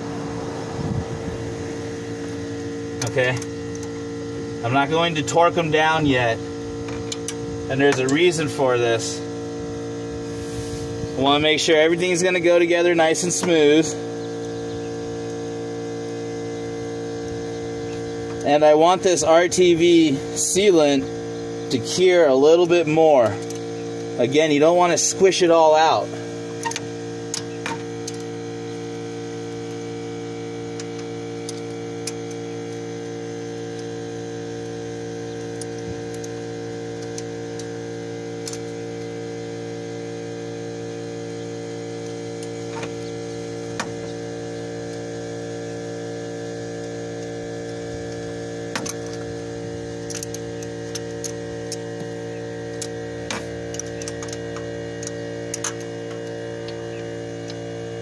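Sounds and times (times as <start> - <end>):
steady multi-tone hum: 0.0 - 58.0.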